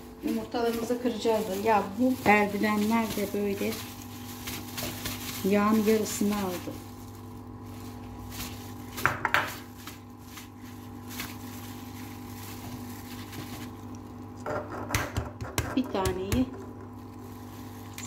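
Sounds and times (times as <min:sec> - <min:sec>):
hand mixing paste in bowl: 0:00.0 - 0:18.0
steady low hum: 0:00.0 - 0:18.0.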